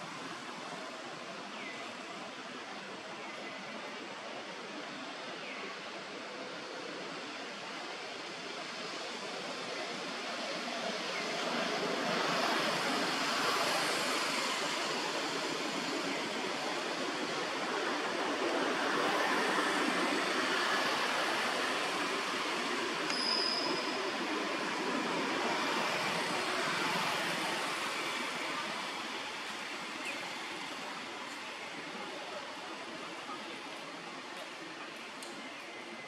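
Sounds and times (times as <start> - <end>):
rushing outdoor background noise: 0.0 - 36.0.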